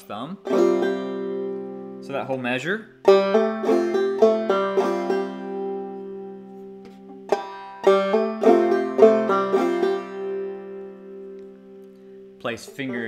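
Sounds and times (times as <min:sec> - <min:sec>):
banjo strumming: 0:00.3 - 0:13.0.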